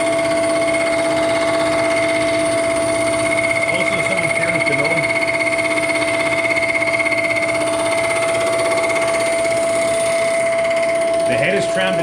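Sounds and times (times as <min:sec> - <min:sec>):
milling machine cutter whining: 0:00.0 - 0:12.0.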